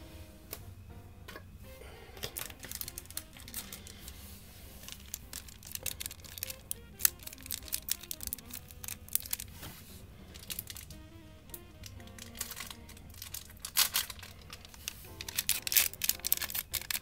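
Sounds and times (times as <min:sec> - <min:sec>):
background music: 0:00.0 - 0:17.0
foil wrapper crinkling: 0:02.2 - 0:17.0.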